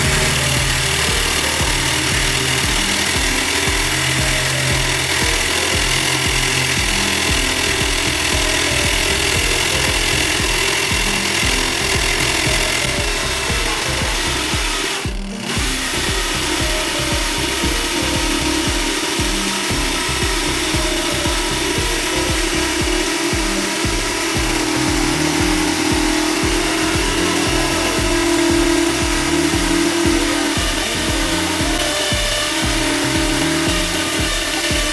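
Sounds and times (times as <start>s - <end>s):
background music with low beat: 0.0s - 34.9s
power drill grinding wood: 0.0s - 34.9s.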